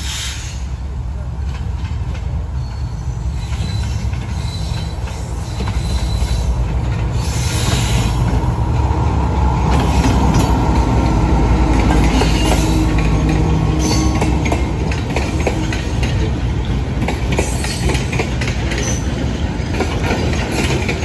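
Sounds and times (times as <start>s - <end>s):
diesel locomotive engine hum: 0.0s - 21.0s.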